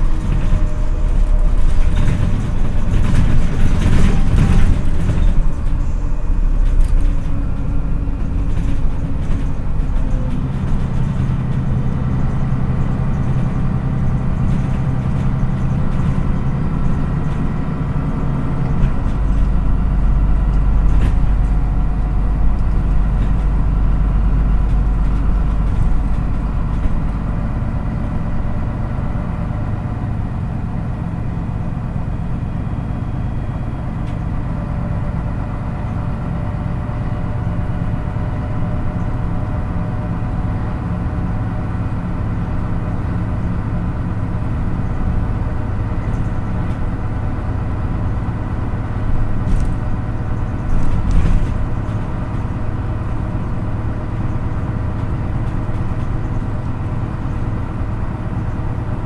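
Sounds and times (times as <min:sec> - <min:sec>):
bus diesel engine running: 0:00.0 - 0:59.0
road rumble: 0:00.0 - 0:59.0.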